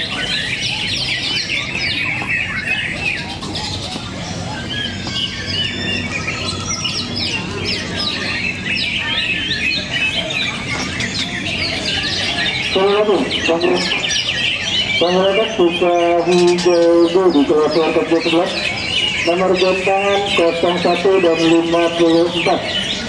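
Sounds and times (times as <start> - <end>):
birds singing chirps and whistles: 0.0 - 23.0.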